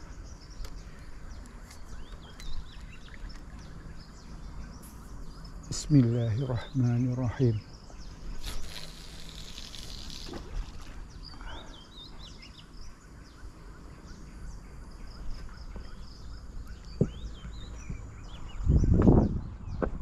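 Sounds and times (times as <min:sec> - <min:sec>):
outdoor background noise: 0:00.0 - 0:20.0
small birds chirping: 0:00.0 - 0:20.0.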